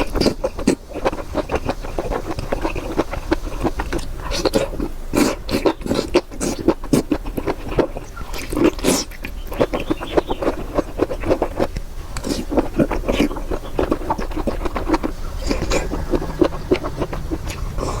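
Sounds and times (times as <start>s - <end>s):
chewing with wet smacks and crunches: 0.0s - 18.0s.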